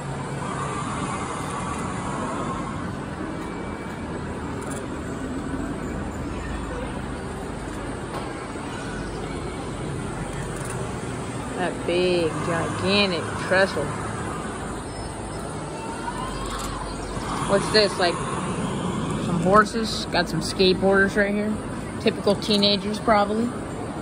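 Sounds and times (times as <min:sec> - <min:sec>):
faint voices: 0:00.0 - 0:24.0
hall rumble and hiss: 0:00.0 - 0:24.0.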